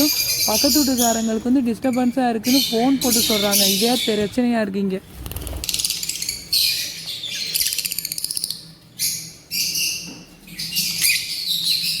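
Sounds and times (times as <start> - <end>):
lovebirds screeching: 0.0 - 4.3, 5.4 - 12.0.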